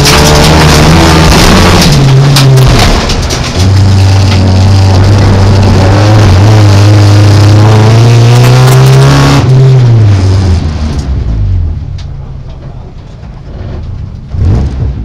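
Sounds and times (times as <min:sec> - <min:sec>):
car engine at high revs: 0:00.0 - 0:12.2, 0:13.4 - 0:15.0.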